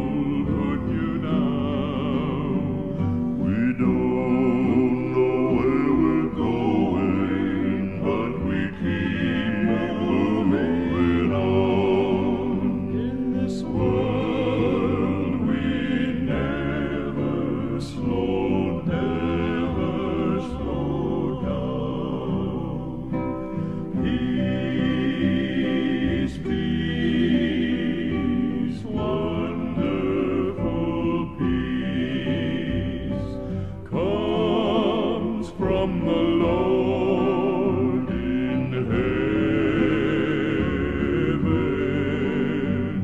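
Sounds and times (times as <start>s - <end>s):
male vocal quartet singing harmony: 0.0s - 43.0s.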